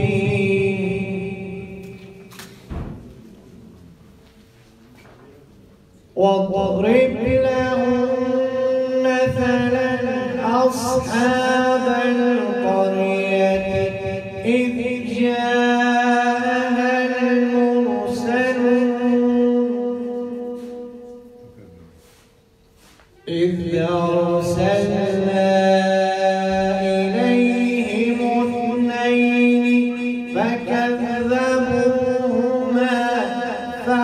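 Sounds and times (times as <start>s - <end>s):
man chanting melodically: 0.0s - 2.4s, 6.1s - 22.1s, 23.2s - 34.0s.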